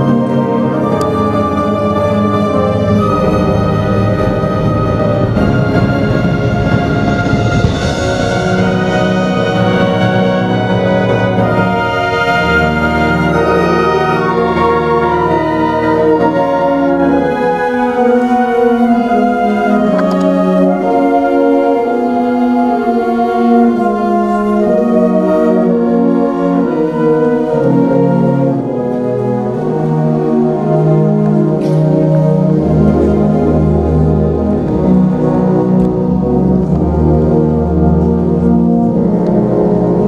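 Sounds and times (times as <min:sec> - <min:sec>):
concert band playing slow chords: 0:00.0 - 0:40.0.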